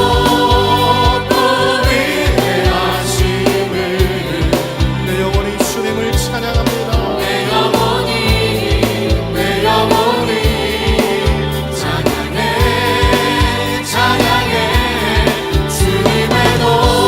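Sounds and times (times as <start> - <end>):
choir singing: 0.0 - 17.0
worship band playing: 0.0 - 17.0.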